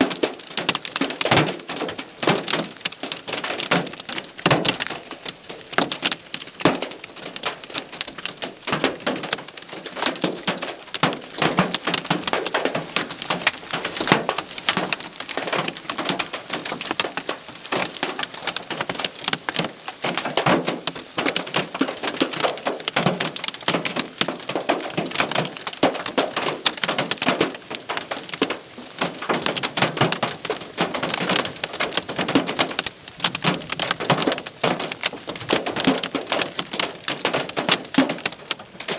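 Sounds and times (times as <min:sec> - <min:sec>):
hailstones pelting a hard surface: 0:00.0 - 0:38.9.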